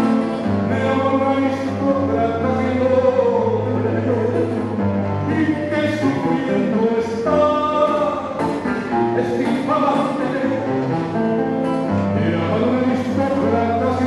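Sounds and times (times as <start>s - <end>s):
man singing into microphone: 0.0s - 11.0s, 11.9s - 14.0s
instrumental accompaniment: 0.0s - 14.0s.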